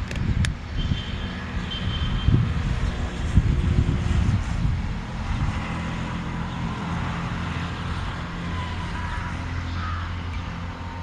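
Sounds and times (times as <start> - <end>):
vehicle low rumble: 0.0 - 11.0
wind buffeting microphone: 0.0 - 11.0.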